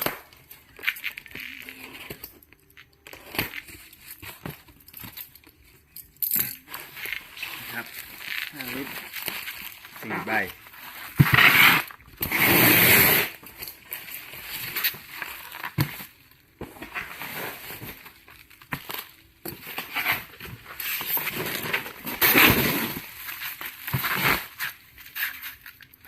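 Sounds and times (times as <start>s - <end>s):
cardboard and plastic packing rustling: 0.0s - 6.0s, 6.6s - 12.4s, 13.3s - 26.0s.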